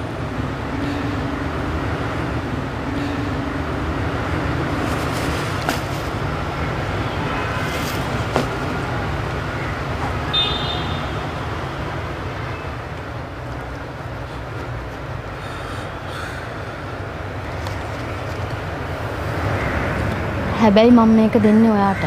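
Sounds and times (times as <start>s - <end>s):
urban traffic noise: 0.0s - 22.0s.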